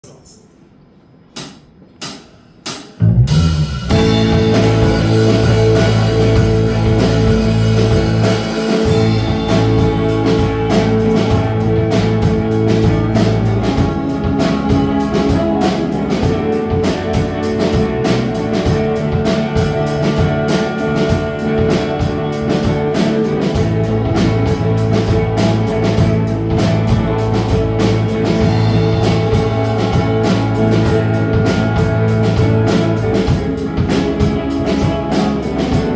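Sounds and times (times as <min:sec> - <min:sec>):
rock band playing live: 0:03.0 - 0:35.9.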